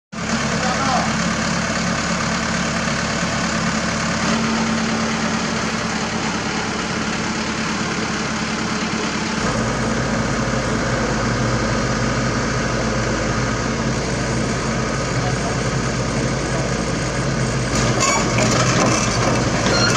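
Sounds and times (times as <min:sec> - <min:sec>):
diesel engines idling: 0:00.2 - 0:19.9.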